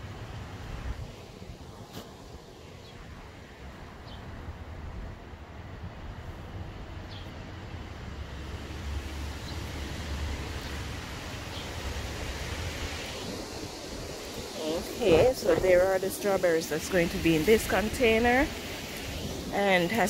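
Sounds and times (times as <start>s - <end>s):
wind buffeting microphone: 0.4s - 20.0s.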